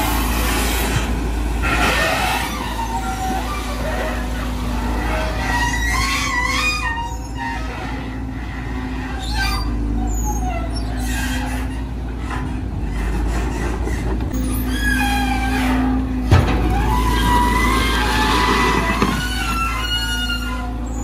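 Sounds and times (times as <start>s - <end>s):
excavator engine drone: 0.0s - 21.0s.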